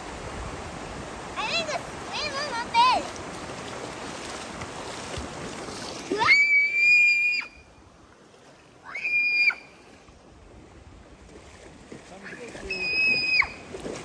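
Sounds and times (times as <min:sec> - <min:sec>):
rushing splashing water: 0:00.0 - 0:14.0.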